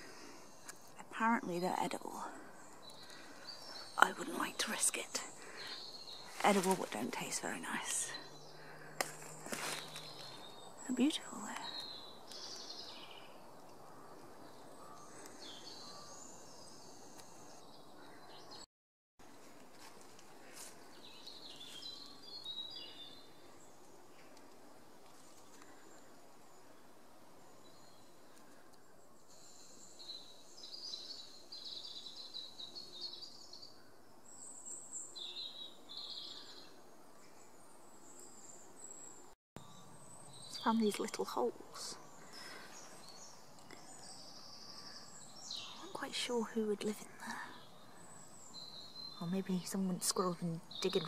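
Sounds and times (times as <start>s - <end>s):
birds chirping and trilling: 0.0s - 18.7s, 20.8s - 24.4s, 25.4s - 51.0s
songbirds singing: 0.0s - 18.7s, 20.3s - 51.0s.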